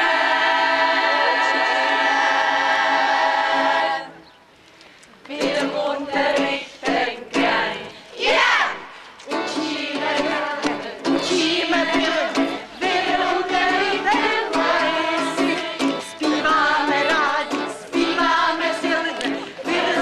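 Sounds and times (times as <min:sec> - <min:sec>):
group of people singing: 0:00.0 - 0:04.3, 0:05.3 - 0:20.0.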